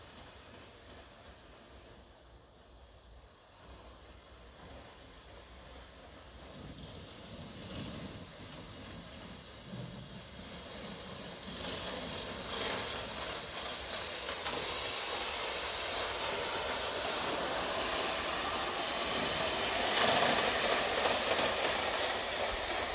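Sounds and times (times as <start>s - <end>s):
model steam train passing: 0.0s - 22.9s.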